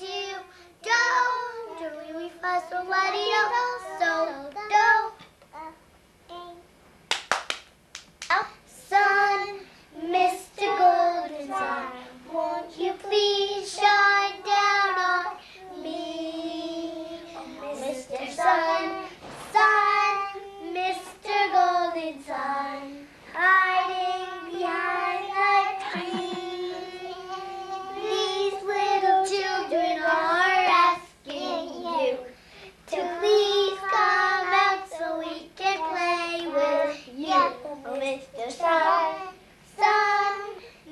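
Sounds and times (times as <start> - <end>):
young child singing: 0.0 - 6.7, 8.3 - 40.9.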